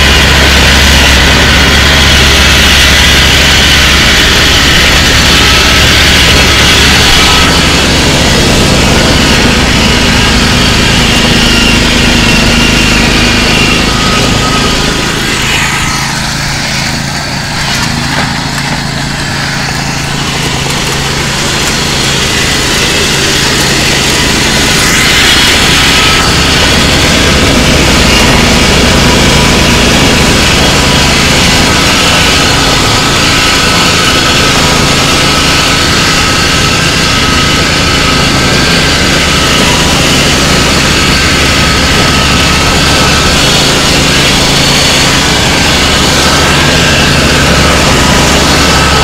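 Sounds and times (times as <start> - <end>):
small engine running: 0.0 - 49.0.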